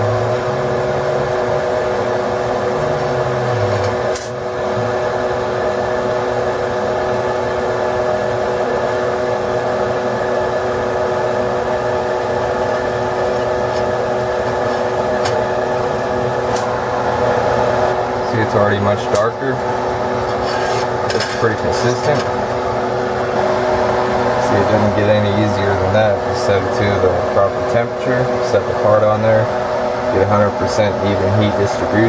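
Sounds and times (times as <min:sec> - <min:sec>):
fan whirring hum: 0:00.0 - 0:32.0.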